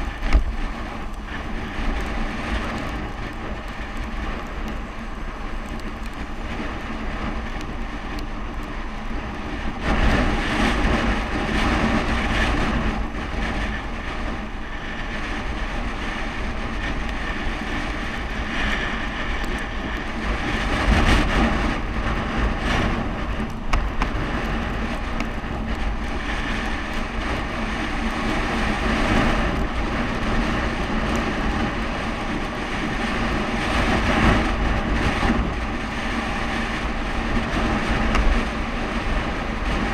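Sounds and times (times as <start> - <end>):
bicycle road noise: 0.0 - 39.9
wind buffeting microphone: 0.0 - 39.9.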